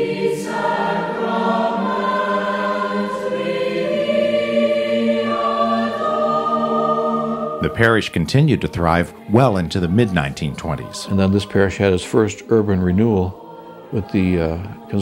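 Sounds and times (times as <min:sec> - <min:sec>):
choir singing sacred music: 0:00.0 - 0:15.0.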